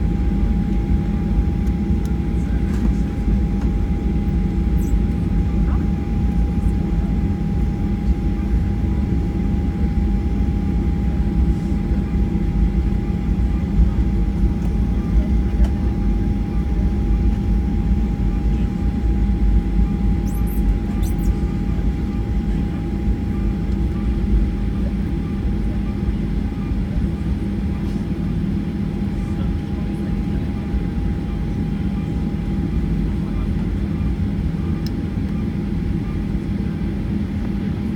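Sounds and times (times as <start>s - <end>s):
aircraft engine rumble: 0.0s - 37.9s.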